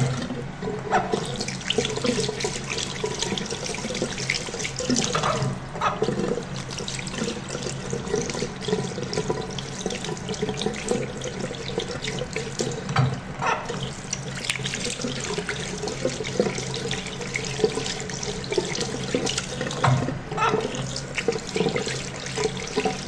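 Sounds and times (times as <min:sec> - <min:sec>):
tap water splashing: 0:00.0 - 0:23.0.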